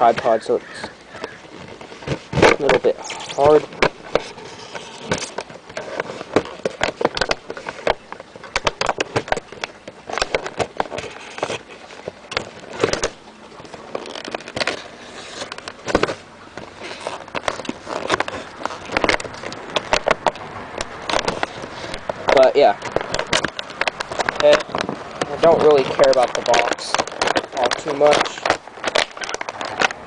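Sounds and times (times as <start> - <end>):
box packaging pulled open: 0.0 - 30.0.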